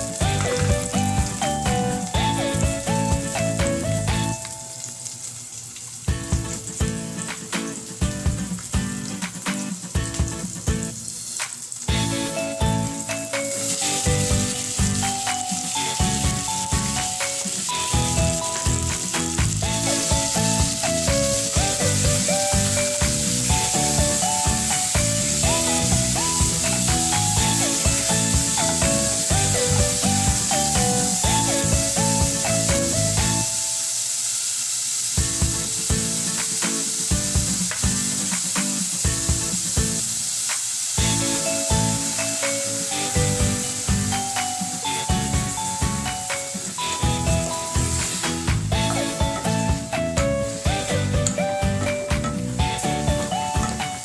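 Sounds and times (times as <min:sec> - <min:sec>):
background music with a beat: 0:00.0 - 0:04.7, 0:06.1 - 0:33.5, 0:35.2 - 0:54.0
meat sizzling in a saucepan: 0:00.0 - 0:54.0.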